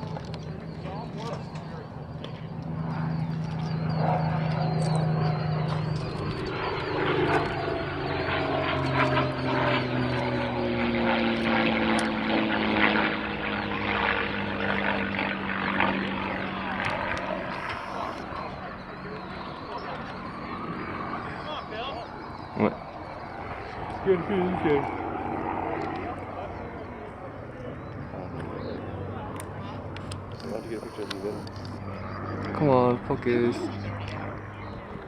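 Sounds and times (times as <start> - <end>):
propeller plane flying overhead: 0.0 - 35.0.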